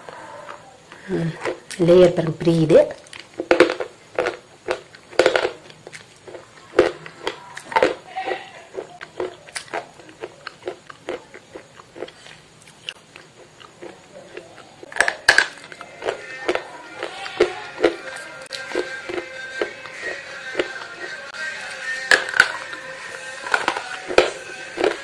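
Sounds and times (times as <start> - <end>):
crunchy chewing: 0.0 - 1.8, 2.9 - 25.0.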